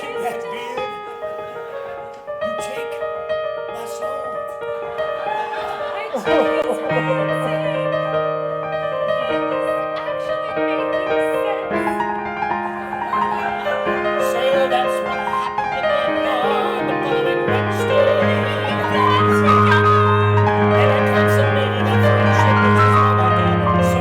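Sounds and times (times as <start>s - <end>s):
piano playing slow chords: 0.0s - 24.0s.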